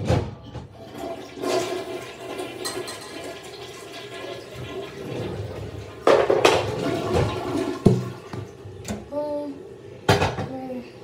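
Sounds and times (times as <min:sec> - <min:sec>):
toilet flushing: 0:00.7 - 0:10.2.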